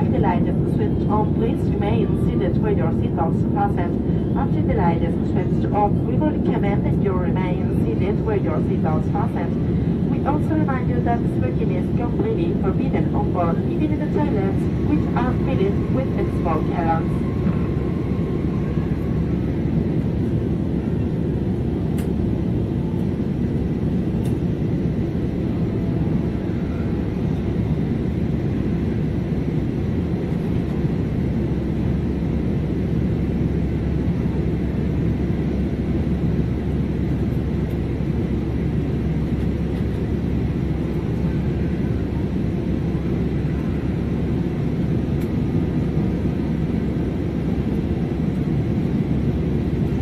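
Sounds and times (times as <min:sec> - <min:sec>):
jet cabin engine rumble: 0:00.0 - 0:50.0.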